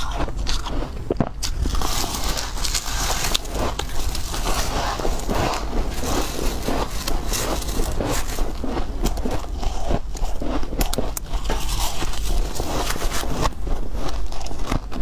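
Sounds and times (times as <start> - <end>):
spoon scraping ice: 0.0 - 14.6
ice being crunched and chewed: 0.0 - 15.0.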